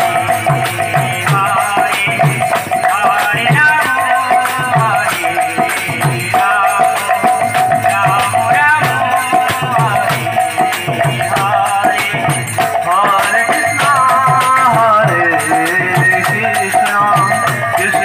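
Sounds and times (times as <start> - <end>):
hand drum beating: 0.0 - 18.0
small shaken percussion: 0.0 - 18.0.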